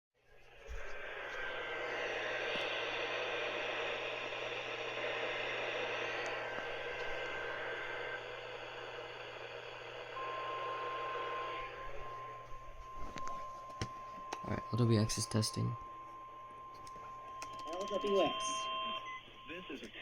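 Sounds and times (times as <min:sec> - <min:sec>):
clear steady tone: 0:00.3 - 0:20.0
radio static hiss: 0:00.4 - 0:16.0, 0:18.0 - 0:20.0.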